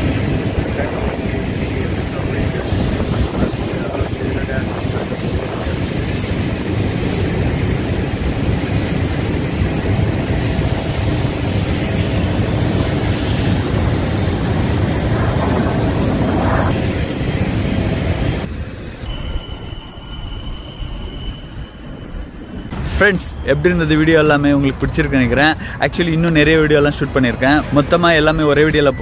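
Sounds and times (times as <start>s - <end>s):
high whine: 0.0s - 29.0s
jet engine roar: 0.0s - 29.0s.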